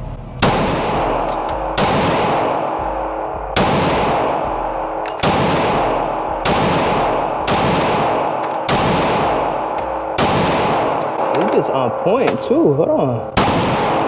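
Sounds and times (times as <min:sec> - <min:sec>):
pistol shots with echo: 0:00.4 - 0:14.0.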